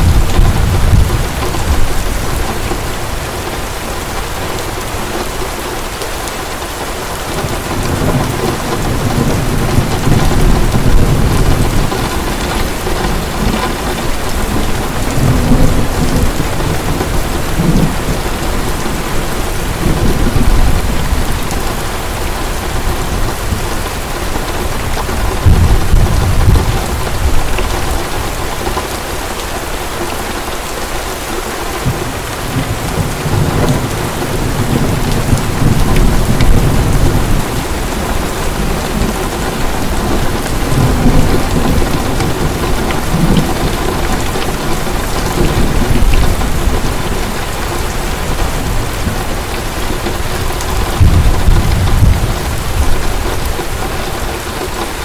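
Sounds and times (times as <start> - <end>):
thunder rumbling: 0.0 - 5.1, 7.2 - 29.1, 31.8 - 55.0
heavy rain falling: 0.0 - 55.0.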